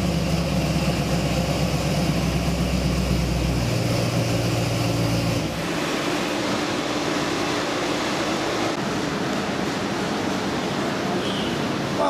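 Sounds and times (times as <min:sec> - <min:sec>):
engine running: 0:00.0 - 0:12.0
loud steady rushing noise: 0:00.0 - 0:12.0.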